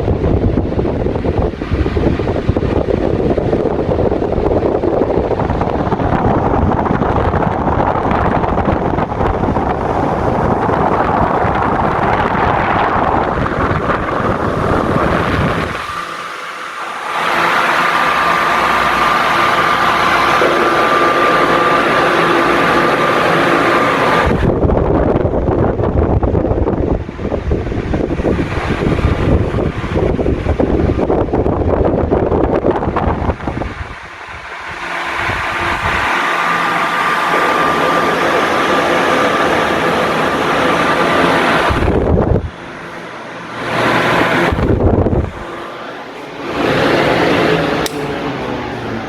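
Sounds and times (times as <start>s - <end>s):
fan airflow rushing: 0.0s - 49.0s
steady high whine: 0.0s - 49.0s.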